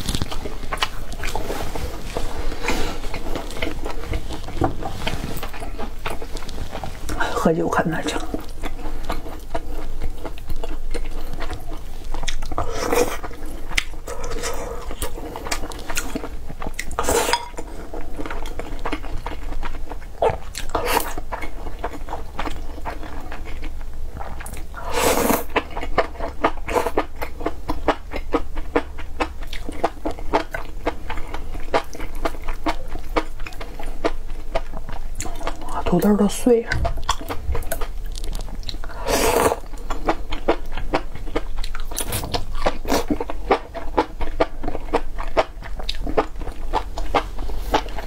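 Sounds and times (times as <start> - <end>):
person chewing: 0.0 - 7.2, 8.2 - 35.9, 36.8 - 48.0.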